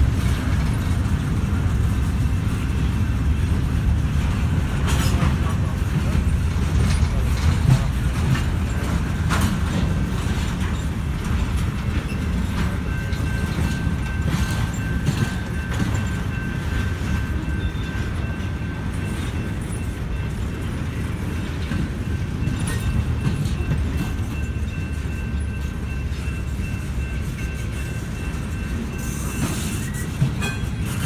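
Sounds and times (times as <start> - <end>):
steel wheels rumbling on rail: 0.0 - 31.0
wheels clicking over rail joints: 0.0 - 31.0.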